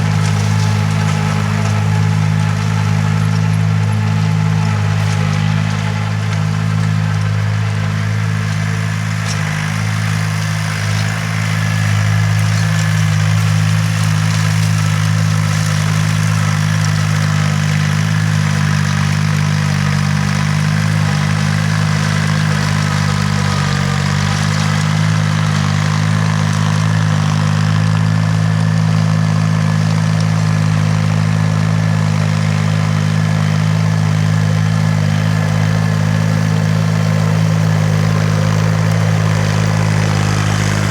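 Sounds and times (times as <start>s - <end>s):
tiller engine droning: 0.0s - 40.9s.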